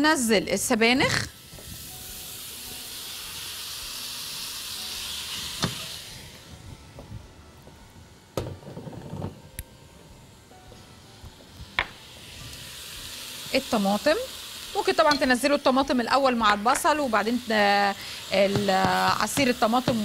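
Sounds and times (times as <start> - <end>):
spinach sizzling in hot pot: 0.0 - 20.0.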